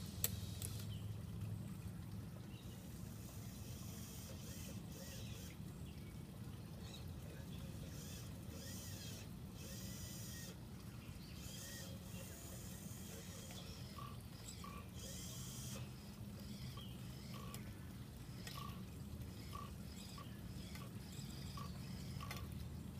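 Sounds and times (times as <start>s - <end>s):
electric winch motors whirring: 0.0s - 0.9s, 2.8s - 5.7s, 7.6s - 22.9s.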